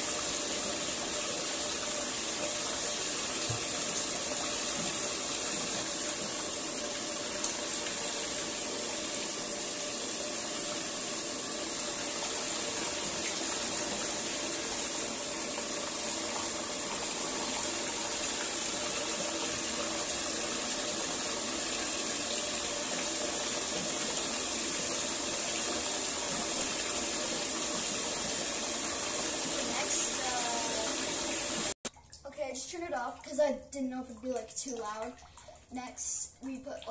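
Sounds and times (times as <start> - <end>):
faucet water pouring into tub: 0.0 - 32.2, 33.0 - 36.9.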